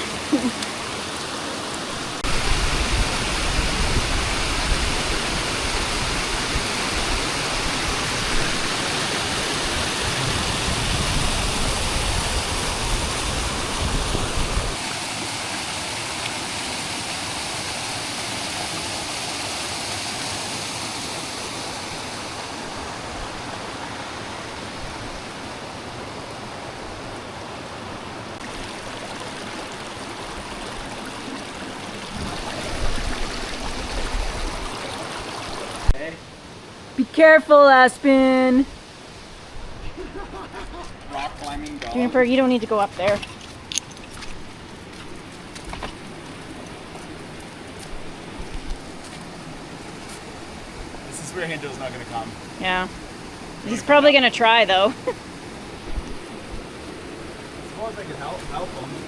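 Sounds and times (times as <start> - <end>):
waterfall rushing: 0.0 - 36.6, 46.0 - 59.0.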